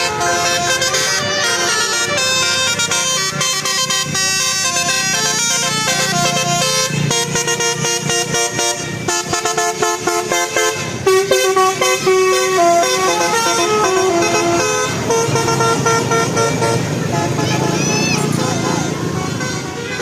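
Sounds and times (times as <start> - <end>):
multi-tone musical bus horn: 0.0 - 20.0.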